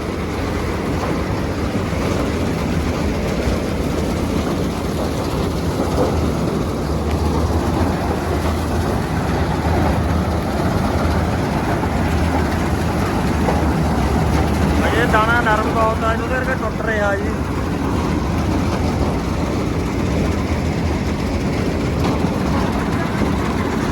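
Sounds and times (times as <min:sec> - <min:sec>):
combine harvester running: 0:00.0 - 0:23.9.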